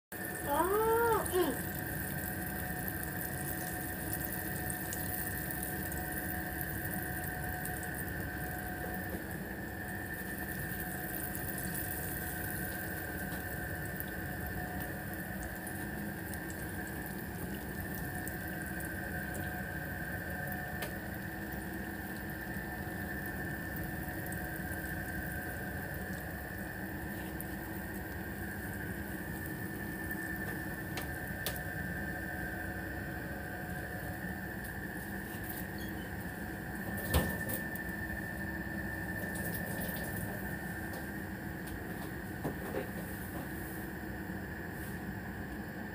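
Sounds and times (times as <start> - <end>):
steady high whine: 0.1 - 45.9
fish deep-frying in oil: 0.2 - 44.6.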